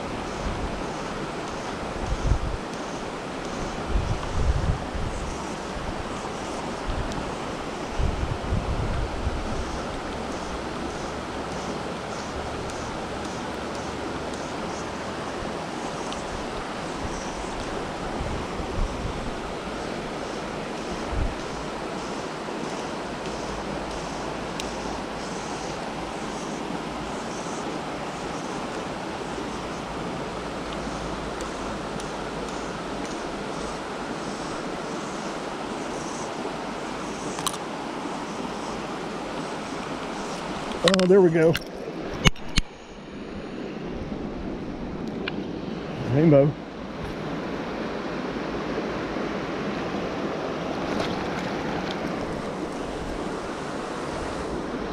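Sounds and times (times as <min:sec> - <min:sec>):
river running over stones: 0:00.0 - 0:54.9.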